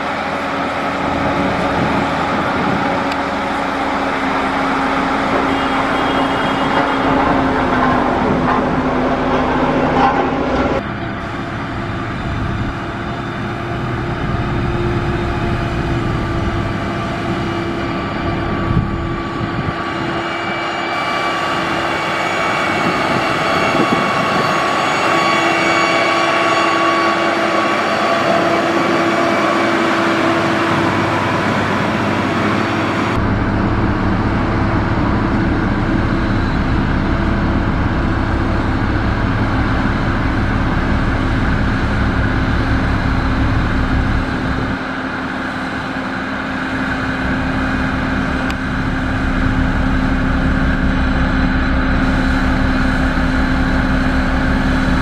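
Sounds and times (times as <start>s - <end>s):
heavy diesel engine running: 0.0s - 55.0s
steady whine: 0.0s - 55.0s.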